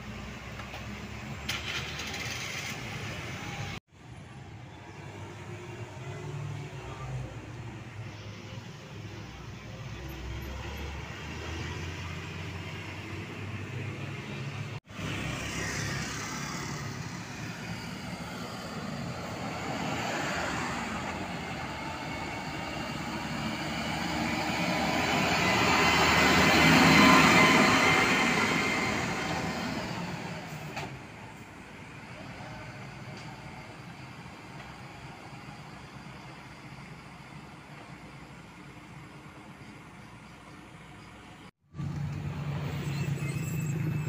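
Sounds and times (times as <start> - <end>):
truck diesel engine passing: 5.0 - 44.0.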